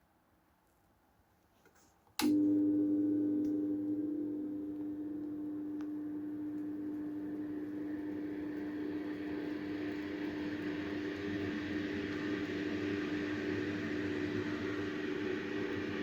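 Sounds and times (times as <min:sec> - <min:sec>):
fan electric hum: 0:02.2 - 0:16.0.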